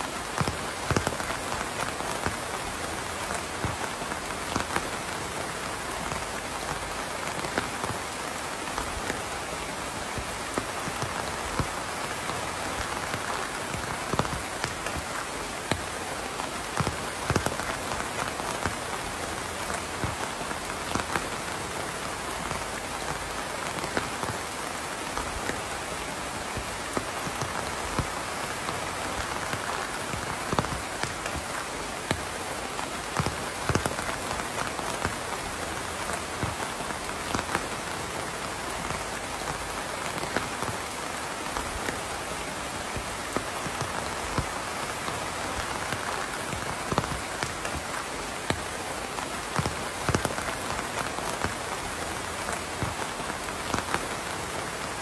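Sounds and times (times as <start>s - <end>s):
raindrops tapping on a surface: 0.0s - 55.0s
steady rain hiss: 0.0s - 55.0s.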